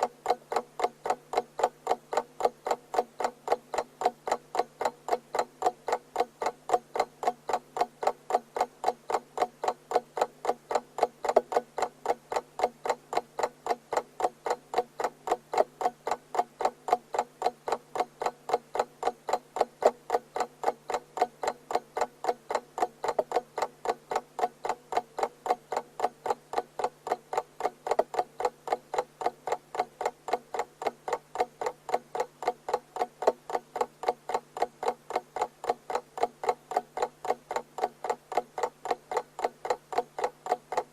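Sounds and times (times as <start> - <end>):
alarm clock ticking: 0.0 - 40.9
faint steady hum: 0.0 - 40.9.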